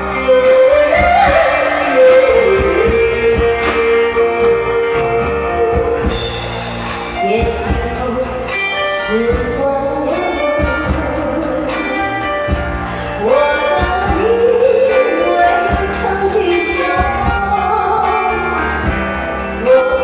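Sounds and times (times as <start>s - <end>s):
backing music with drum beat: 0.0s - 20.0s
person singing slow song: 0.0s - 20.0s.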